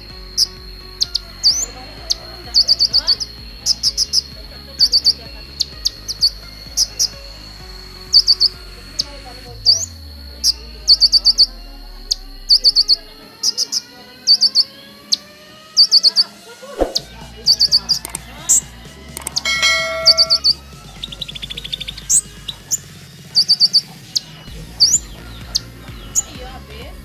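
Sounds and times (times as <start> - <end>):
sunbird chirping: 0.0 - 18.6, 19.2 - 26.3
high-pitched whine: 0.0 - 23.4.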